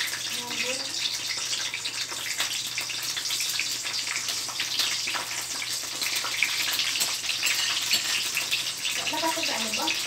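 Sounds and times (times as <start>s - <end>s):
slices sizzling in hot oil: 0.0s - 10.0s.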